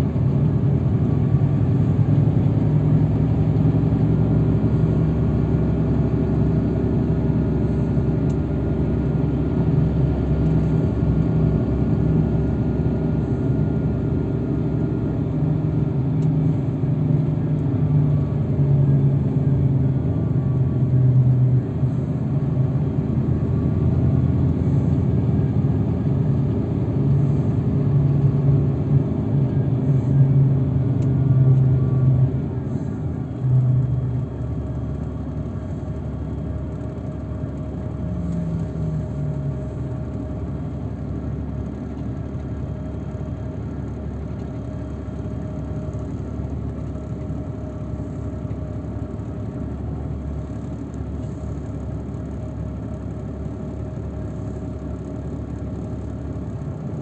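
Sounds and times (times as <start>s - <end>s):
shuttle engine and road rumble: 0.0s - 57.0s.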